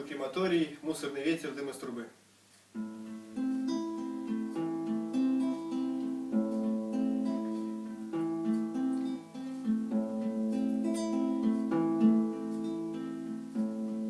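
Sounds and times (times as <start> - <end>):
acoustic guitar picking chords: 2.7 - 14.0.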